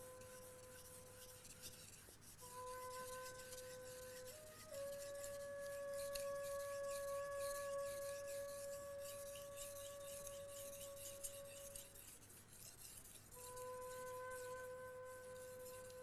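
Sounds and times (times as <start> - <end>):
soft ringing background music: 0.0 - 1.8, 2.4 - 12.0, 13.3 - 16.0
knife scraping on whetstone: 0.0 - 16.0.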